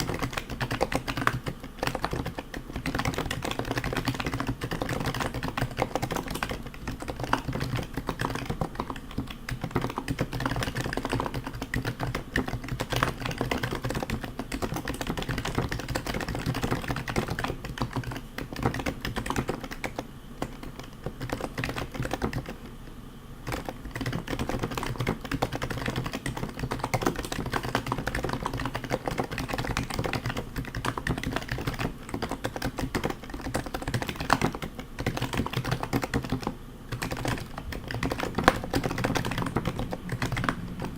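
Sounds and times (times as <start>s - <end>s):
fast typing on keyboard: 0.0s - 22.7s, 23.4s - 40.9s.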